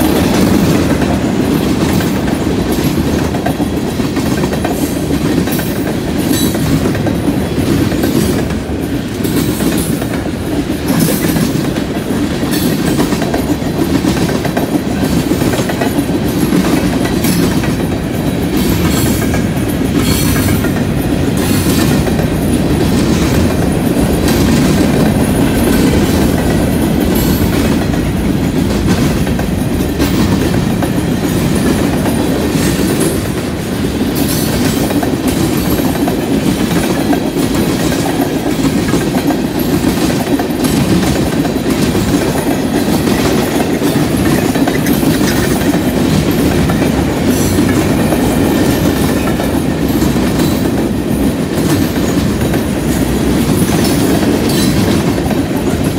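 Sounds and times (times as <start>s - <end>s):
freight train rumbling: 0.0s - 55.9s
steel wheels clicking on track: 0.0s - 55.9s.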